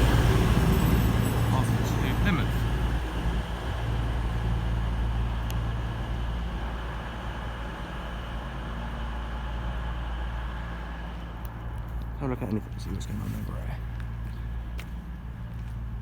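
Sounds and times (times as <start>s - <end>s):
train diesel engines rumbling: 0.0s - 16.0s.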